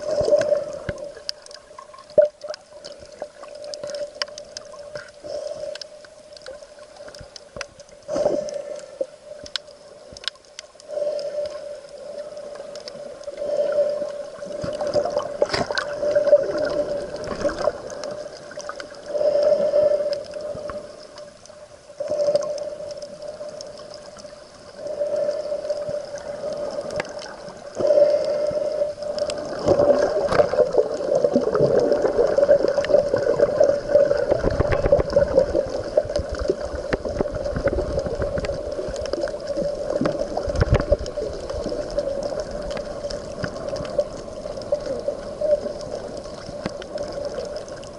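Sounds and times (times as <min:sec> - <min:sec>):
muffled underwater sloshing: 0:00.0 - 0:47.9.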